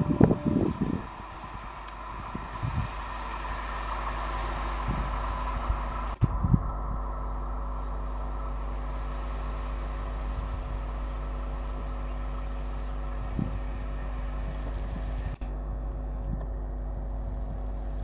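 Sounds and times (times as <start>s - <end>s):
train rumbling and humming: 0.0s - 18.0s.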